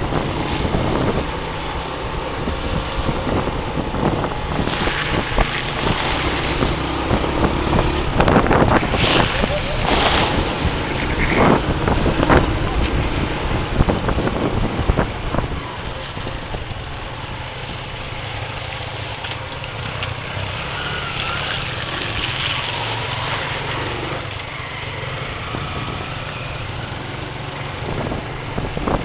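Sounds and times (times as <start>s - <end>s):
rush of travel noise: 0.0s - 29.0s
vehicle engine low rumble: 0.0s - 29.0s.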